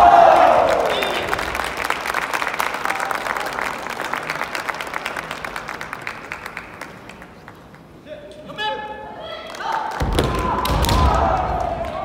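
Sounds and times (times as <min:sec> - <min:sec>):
audience clapping: 0:00.0 - 0:08.0, 0:09.3 - 0:12.0.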